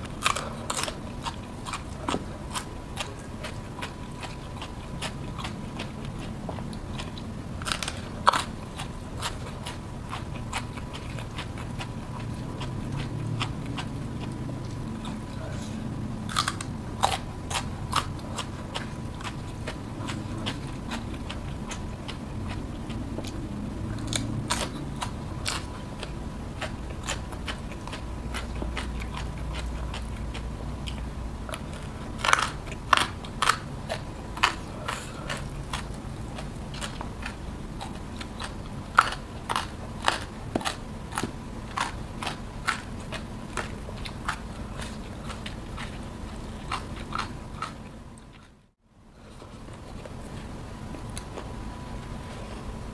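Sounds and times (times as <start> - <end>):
crunchy vegetable chewing: 0.0 - 52.9.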